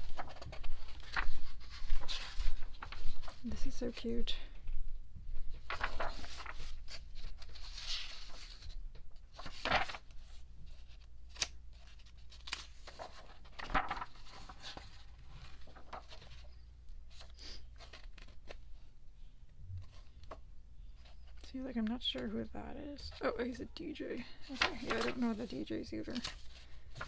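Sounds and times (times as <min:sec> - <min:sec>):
paper and cardboard rustling: 0:00.0 - 0:04.2, 0:05.5 - 0:18.8, 0:22.0 - 0:27.0.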